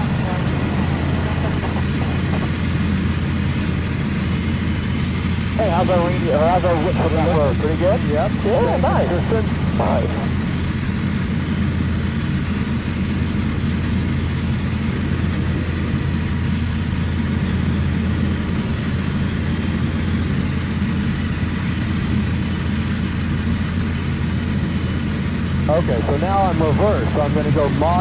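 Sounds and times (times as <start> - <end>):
aircraft engine droning in cockpit: 0.0 - 28.0.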